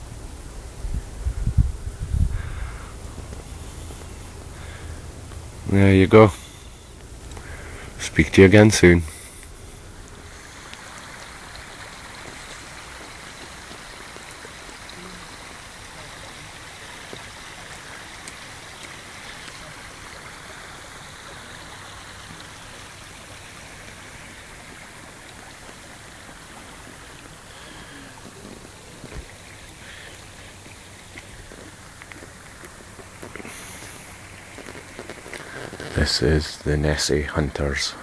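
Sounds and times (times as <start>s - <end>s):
stream flowing over stones: 0.0s - 38.0s.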